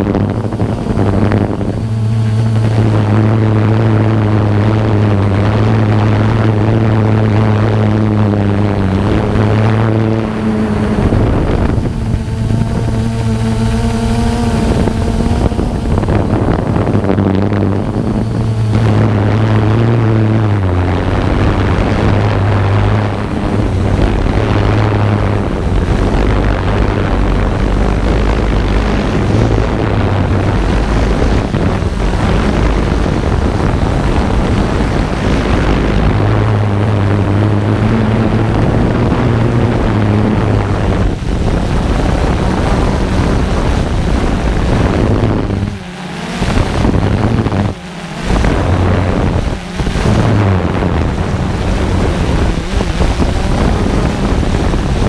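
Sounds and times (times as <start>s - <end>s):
drone propellers humming: 0.0s - 55.0s
wind on microphone: 0.0s - 55.0s.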